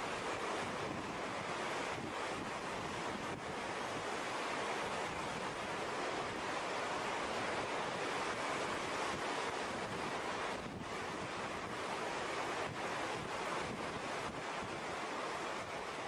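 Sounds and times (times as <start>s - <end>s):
wind on microphone: 0.0s - 15.8s
rough water rushing: 0.0s - 16.0s.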